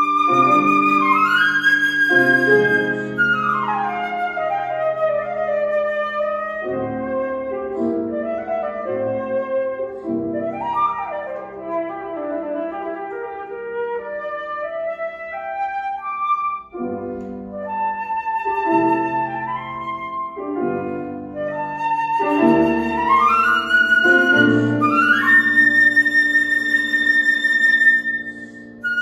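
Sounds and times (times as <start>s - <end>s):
flute melody: 0.0s - 29.0s
piano chords: 0.0s - 29.0s.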